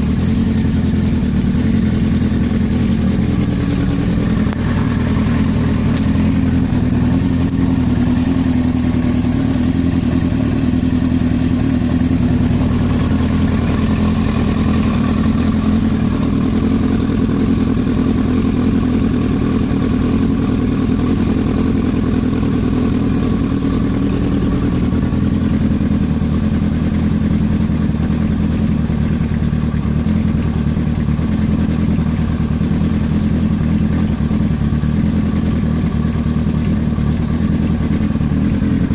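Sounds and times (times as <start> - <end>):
engine knocking: 0.0 - 38.9
motorcycle engine running: 0.0 - 38.9.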